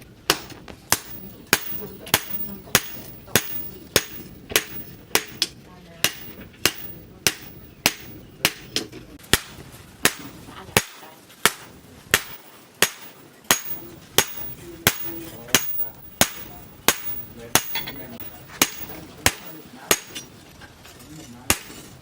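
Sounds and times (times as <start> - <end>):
hammer striking steel on anvil: 0.0 - 20.4, 21.5 - 22.0.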